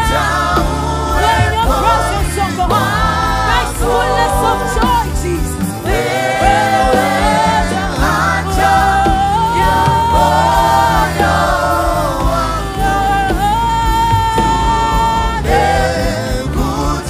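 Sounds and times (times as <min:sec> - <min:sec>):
bass line: 0:00.0 - 0:17.0
group of singers: 0:00.0 - 0:17.0
guitar: 0:00.0 - 0:17.0
keyboard: 0:00.0 - 0:17.0.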